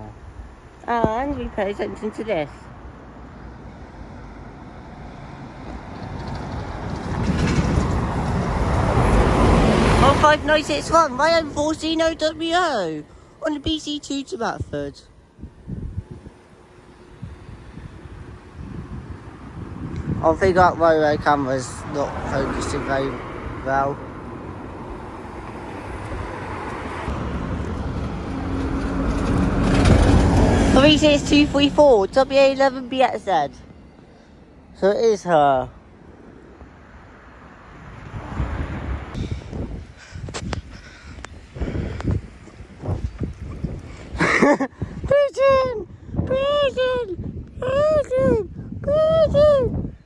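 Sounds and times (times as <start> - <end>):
bus engine rumble: 0.0 - 49.9.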